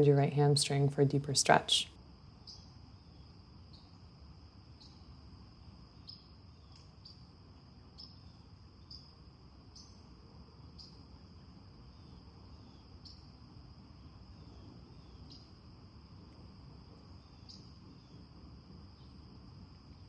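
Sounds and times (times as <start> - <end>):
faint crickets chirring: 0.0 - 20.0.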